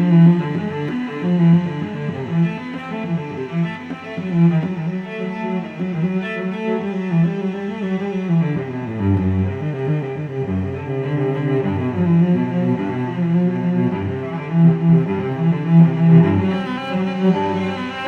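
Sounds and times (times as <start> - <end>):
low bowed strings: 0.0 - 18.0.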